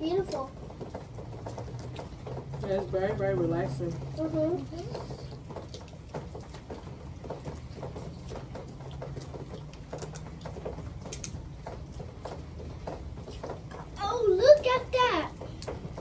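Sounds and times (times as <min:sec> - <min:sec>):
people chewing and lip smacking: 0:00.2 - 0:02.9, 0:03.7 - 0:14.0.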